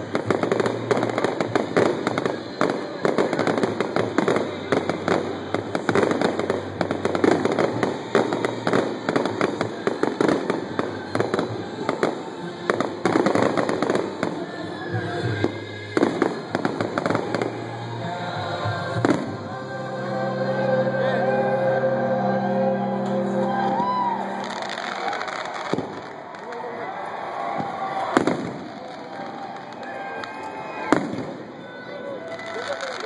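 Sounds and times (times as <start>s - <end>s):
fireworks bangs and crackles: 0.0s - 18.0s, 18.9s - 19.5s, 24.4s - 33.0s
music: 0.0s - 33.0s.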